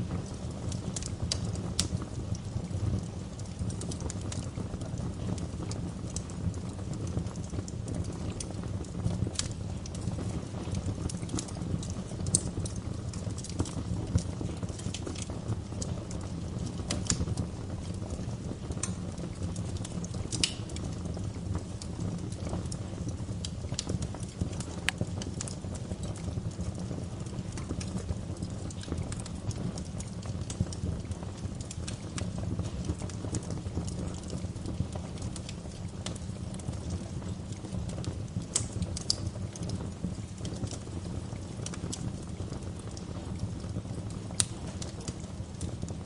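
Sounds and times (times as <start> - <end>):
fire crackling and popping: 0.0 - 46.0
rumble of flames: 0.0 - 46.0.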